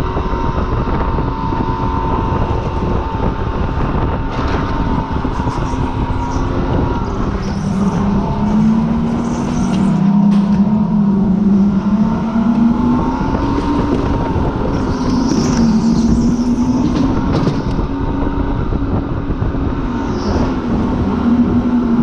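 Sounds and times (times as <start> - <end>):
car engine revving: 0.0 - 22.0
road and wind noise: 0.0 - 22.0.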